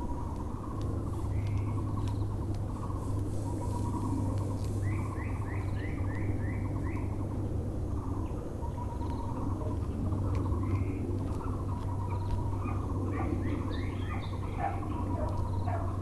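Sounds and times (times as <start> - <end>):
barbet low repeated calls: 0.0 - 16.0
steady low hum: 0.0 - 16.0.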